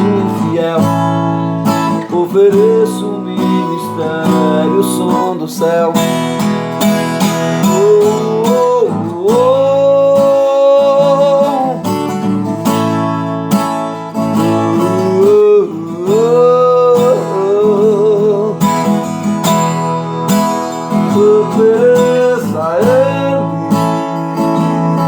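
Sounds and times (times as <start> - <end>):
sliding lead melody with vibrato: 0.0 - 25.0
strummed acoustic guitar: 0.0 - 25.0.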